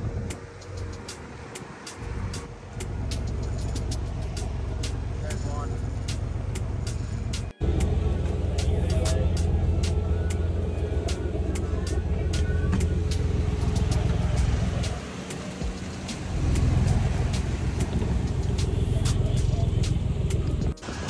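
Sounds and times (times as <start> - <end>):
wind and water rushing: 0.0 - 8.4, 9.8 - 21.0
boat engine drone: 0.0 - 21.0.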